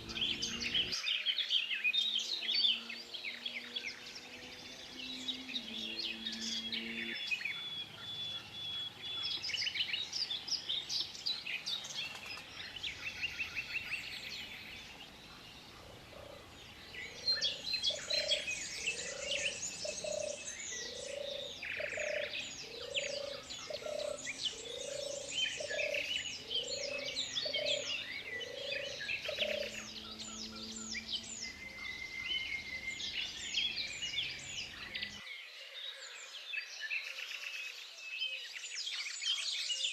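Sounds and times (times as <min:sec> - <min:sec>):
low bird calls: 0:00.0 - 0:01.0, 0:02.2 - 0:35.2
birds singing and chirping: 0:00.0 - 0:39.9.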